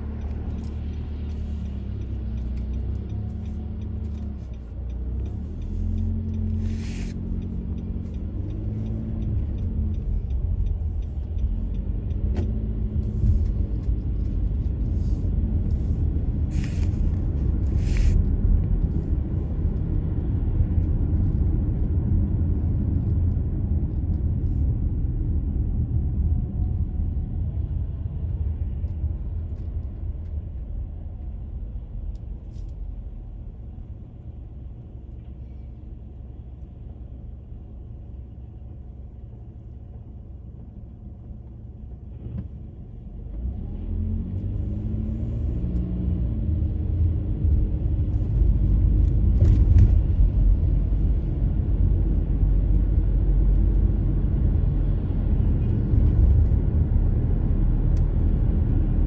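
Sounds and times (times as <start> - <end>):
car engine and tyres on wet road: 0.0 - 59.0.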